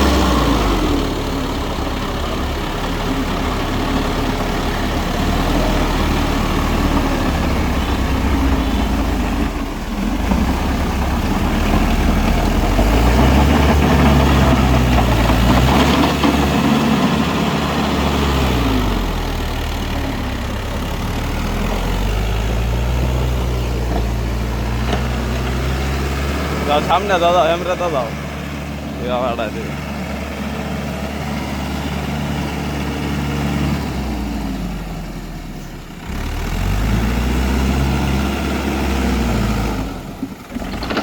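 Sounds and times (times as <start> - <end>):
tractor diesel engine revving: 0.0 - 41.0.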